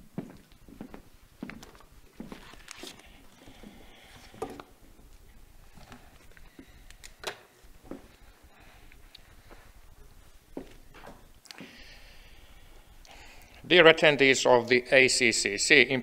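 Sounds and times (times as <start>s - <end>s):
footsteps: 0.0s - 12.9s.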